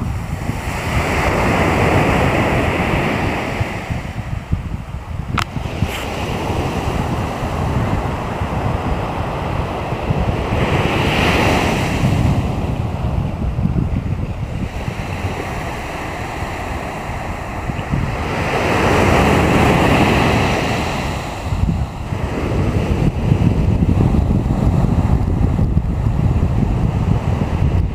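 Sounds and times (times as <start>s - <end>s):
sea waves washing ashore: 0.0s - 27.9s
wind on microphone: 0.0s - 27.9s.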